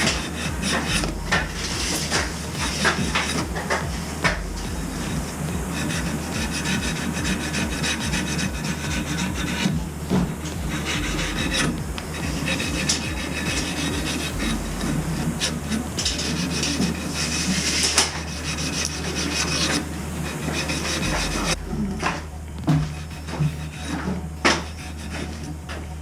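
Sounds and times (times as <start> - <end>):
low hum: 0.0 - 26.0
metal scraping on metal: 0.0 - 26.0.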